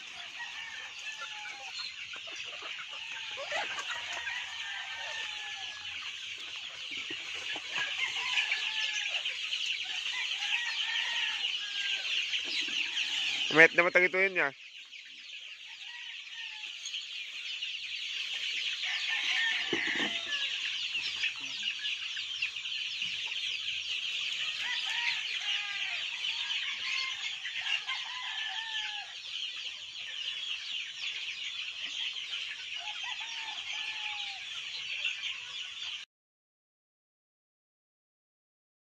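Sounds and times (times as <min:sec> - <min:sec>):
chickens clucking: 0:00.0 - 0:36.1.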